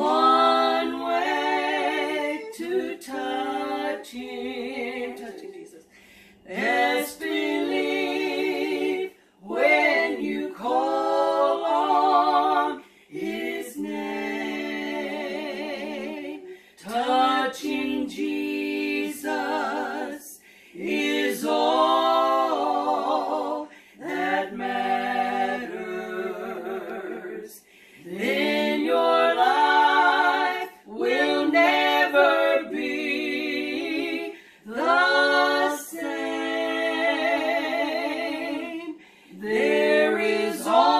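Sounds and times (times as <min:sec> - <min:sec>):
women singing without accompaniment: 0:00.0 - 0:40.9.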